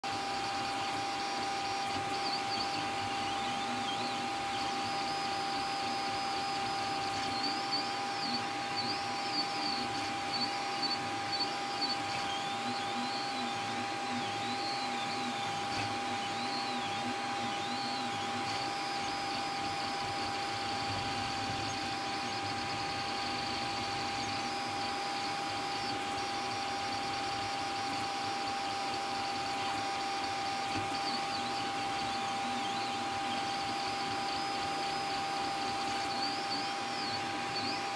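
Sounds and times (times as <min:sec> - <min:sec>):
cooling fans whirring: 0:00.0 - 0:37.9
stepper motors whining: 0:00.1 - 0:37.9.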